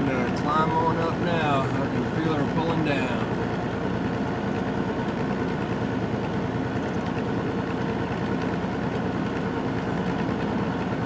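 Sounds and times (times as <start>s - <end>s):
diesel truck engine under load: 0.0s - 11.0s
road noise: 0.0s - 11.0s.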